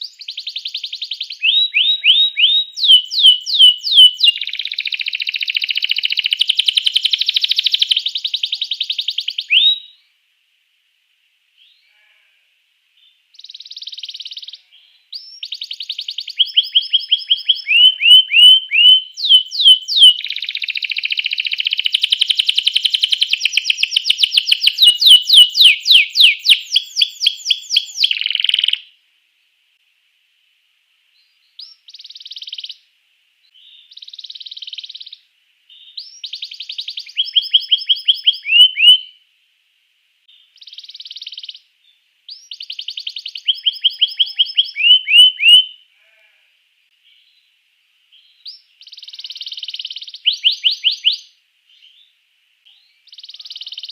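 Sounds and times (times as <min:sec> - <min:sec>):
canary singing trills: 0:00.0 - 0:10.1, 0:13.0 - 0:28.9, 0:31.2 - 0:32.8, 0:33.5 - 0:39.2, 0:40.3 - 0:41.7, 0:42.3 - 0:46.2, 0:48.1 - 0:52.1, 0:52.7 - 0:53.9.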